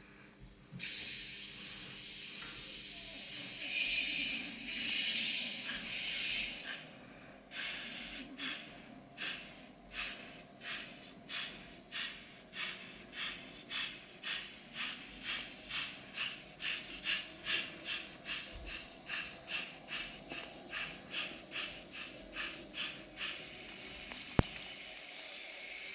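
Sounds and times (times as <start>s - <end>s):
steam locomotive exhaust chuffs: 0.0s - 25.9s
steam hiss: 0.6s - 25.9s.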